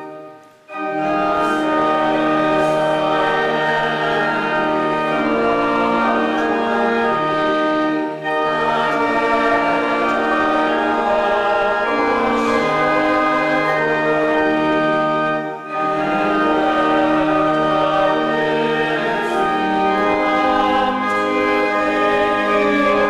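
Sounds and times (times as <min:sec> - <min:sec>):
choir singing a hymn: 0:00.0 - 0:23.0
organ: 0:00.0 - 0:23.0.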